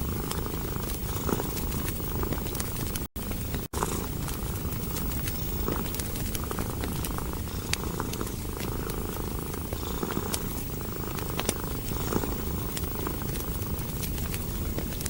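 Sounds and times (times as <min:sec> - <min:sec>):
cat purring: 0:00.0 - 0:15.0
wood fire crackling: 0:00.0 - 0:15.0.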